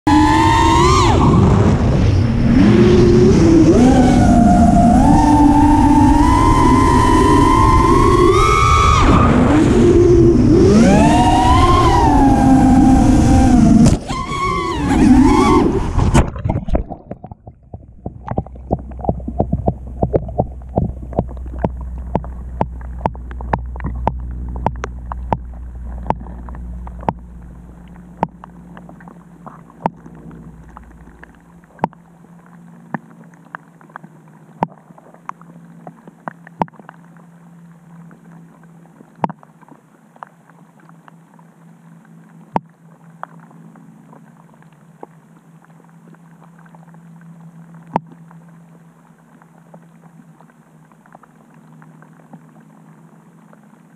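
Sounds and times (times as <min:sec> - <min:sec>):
low underwater rumble: 0:00.1 - 0:53.9
steady low hum: 0:00.1 - 0:53.9.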